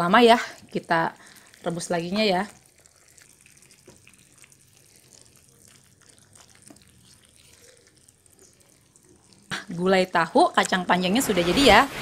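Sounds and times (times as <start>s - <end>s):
small pops and drips: 0.0s - 10.8s
curry simmering and stirred: 0.0s - 11.5s.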